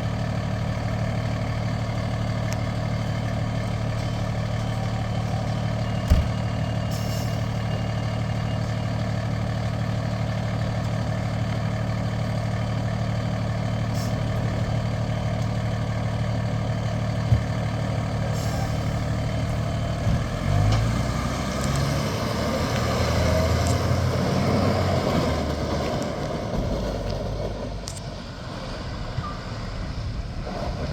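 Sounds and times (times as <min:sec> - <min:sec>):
fire engine engine: 0:00.0 - 0:30.9.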